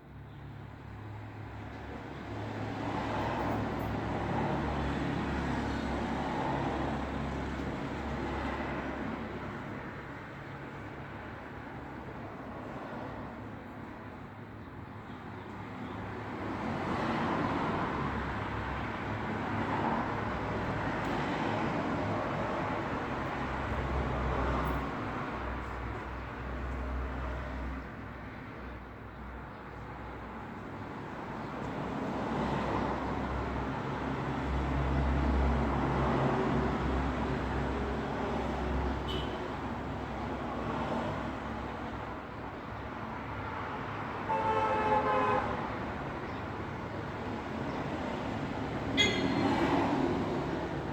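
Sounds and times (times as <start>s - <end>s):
low traffic rumble: 0.1s - 50.9s
vehicles passing: 0.5s - 50.9s.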